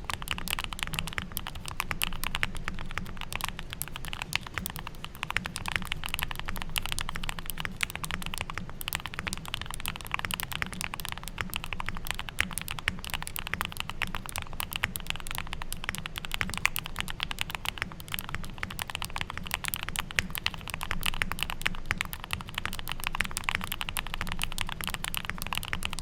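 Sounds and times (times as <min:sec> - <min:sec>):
rapid mechanical keyboard typing: 0:00.0 - 0:26.0.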